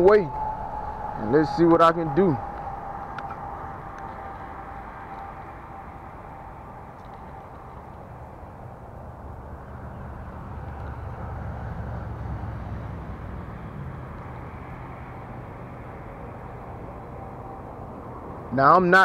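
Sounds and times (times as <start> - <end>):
distant vehicle engine rumble: 0.0 - 19.0.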